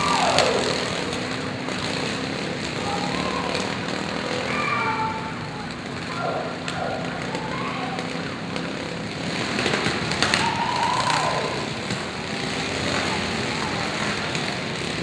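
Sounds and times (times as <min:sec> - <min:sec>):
lawn mower engines revving: 0:00.0 - 0:15.0.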